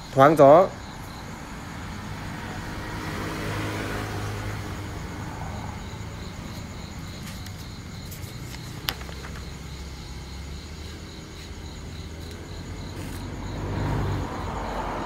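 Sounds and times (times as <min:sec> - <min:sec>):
faint insect chirping: 0:00.0 - 0:15.0
vehicle passing: 0:00.6 - 0:15.0.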